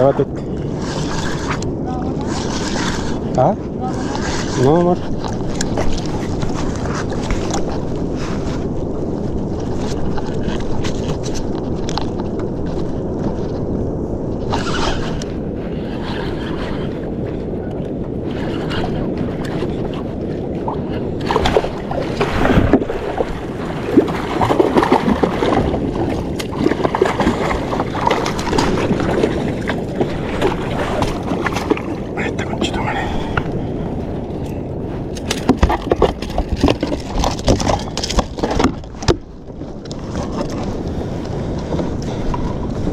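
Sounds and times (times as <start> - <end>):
water lapping against kayak hull: 0.0 - 42.9
wind buffeting microphone: 0.0 - 42.9.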